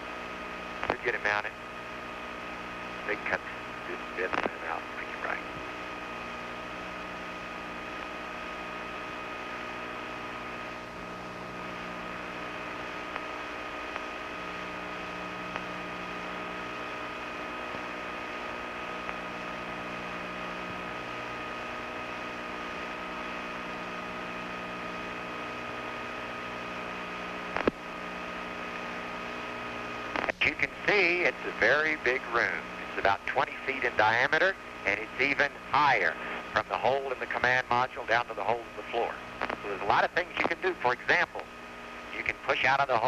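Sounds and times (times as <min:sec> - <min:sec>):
machinery hum and hiss: 0:00.0 - 0:43.0.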